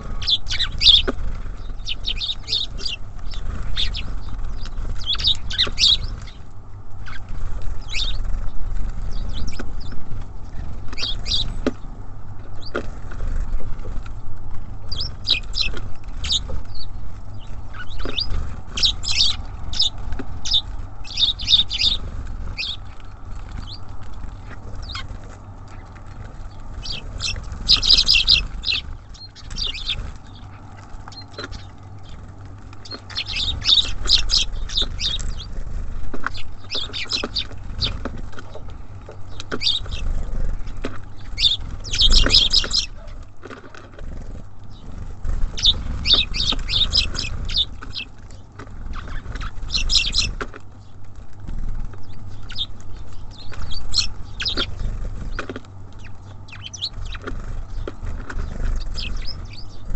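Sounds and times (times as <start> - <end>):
low steady rumble: 0.0 - 59.9
songbirds chirping: 0.0 - 59.9.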